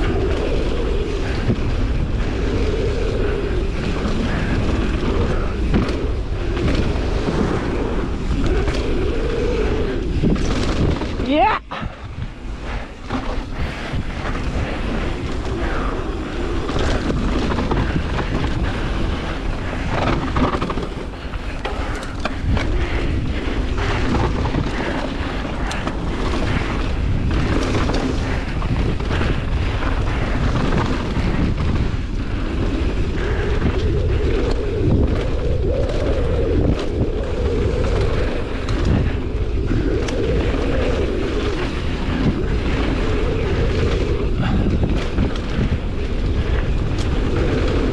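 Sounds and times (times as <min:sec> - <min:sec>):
bike rattling over bumps: 0:00.0 - 0:47.9
wind buffeting microphone: 0:00.0 - 0:47.9.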